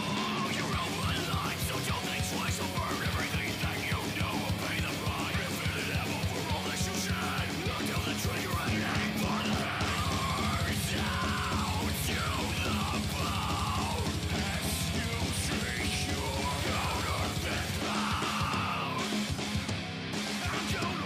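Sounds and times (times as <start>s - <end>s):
heavy metal music: 0.0s - 21.0s
very fast drumming: 0.0s - 21.0s
yelled vocals: 0.0s - 21.0s.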